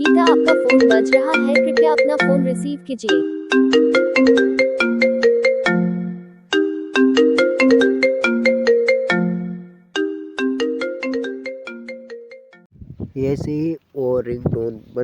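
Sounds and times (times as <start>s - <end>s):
phone ringtone melody: 0.0s - 12.7s.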